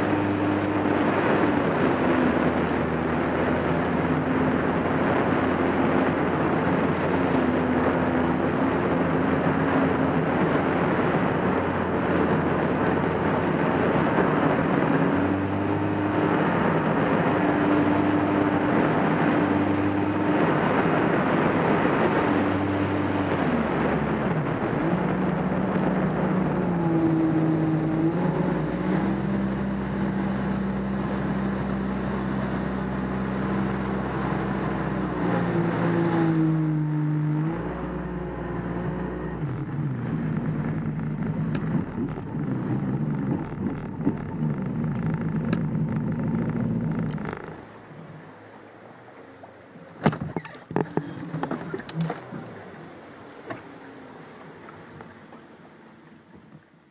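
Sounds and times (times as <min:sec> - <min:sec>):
wind noise: 0:00.0 - 0:47.8
jet ski engine running: 0:00.0 - 0:56.9
water rushing: 0:00.0 - 0:56.9.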